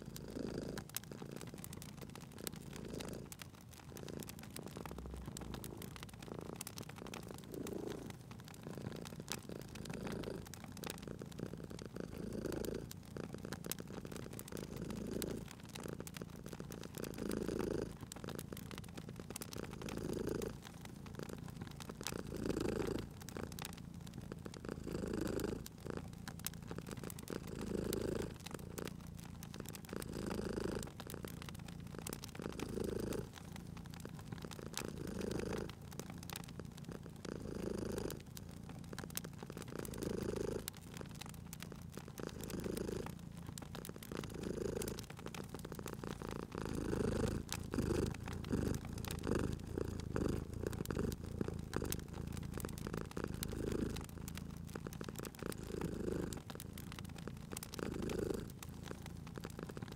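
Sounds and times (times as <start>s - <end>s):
cat purring: 0.0s - 59.9s
wood fire crackling: 0.0s - 59.9s.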